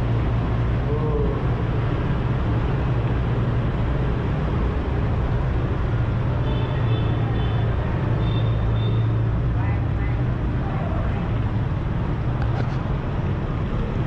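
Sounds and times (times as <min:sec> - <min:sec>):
scooters and motorcycles rumbling: 0:00.0 - 0:14.0.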